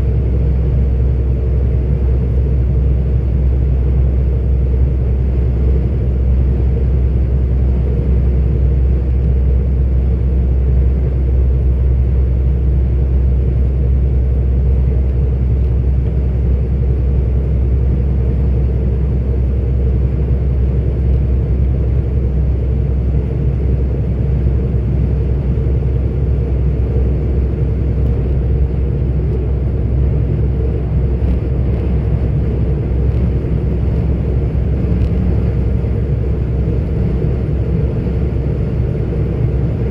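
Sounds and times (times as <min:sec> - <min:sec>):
truck diesel engine and road noise: 0:00.0 - 0:39.9.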